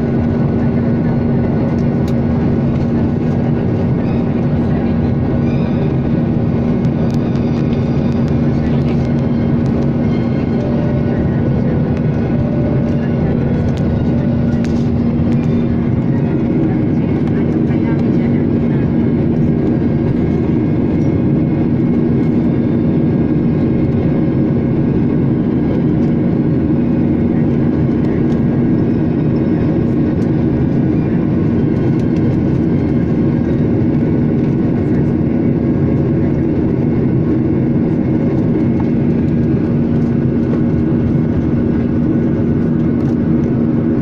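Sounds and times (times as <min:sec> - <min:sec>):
jet engine drone in cabin: 0:00.0 - 0:44.0.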